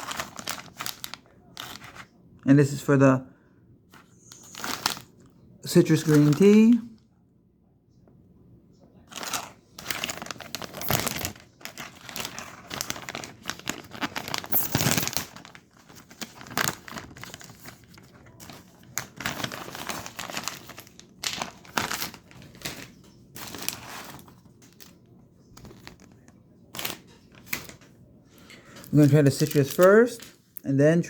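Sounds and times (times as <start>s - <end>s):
plastic packaging crinkling and tearing: 0.0s - 2.1s, 4.3s - 6.8s, 9.1s - 27.9s, 28.7s - 30.6s.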